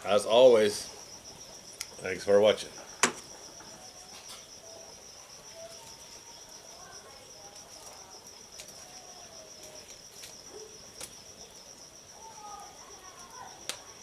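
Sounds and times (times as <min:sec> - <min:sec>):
crickets and insects chirring: 0:00.0 - 0:14.0.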